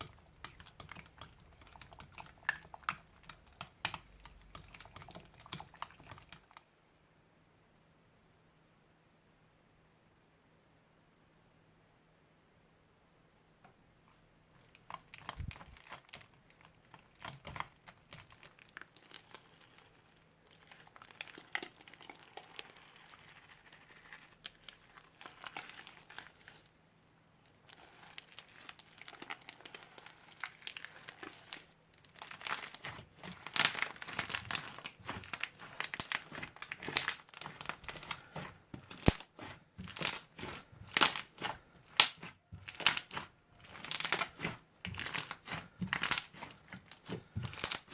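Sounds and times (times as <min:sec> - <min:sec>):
crunchy slime crackling: 0:00.0 - 0:06.6, 0:14.6 - 0:47.9.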